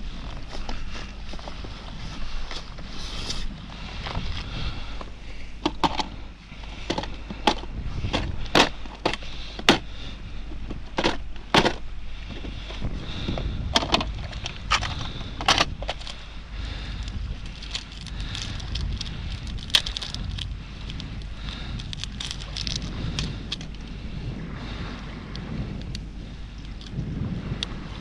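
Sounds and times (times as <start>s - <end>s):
wind noise on microphone: 0.0s - 28.0s.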